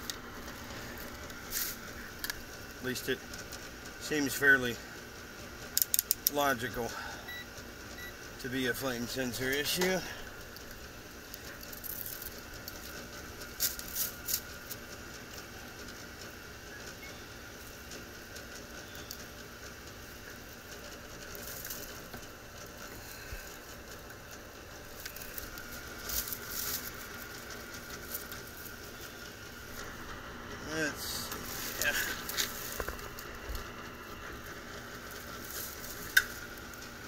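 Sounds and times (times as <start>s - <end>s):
hvac unit humming: 0.0s - 37.0s.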